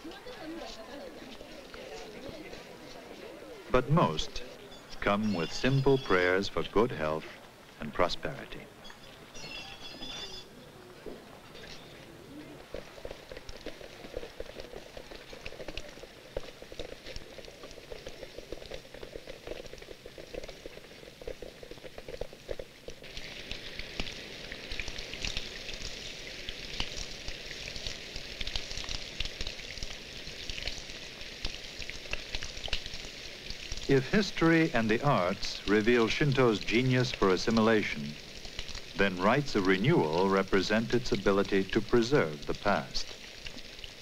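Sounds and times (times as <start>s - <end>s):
rain falling on water: 0.0s - 44.0s
rain pattering: 0.0s - 44.0s.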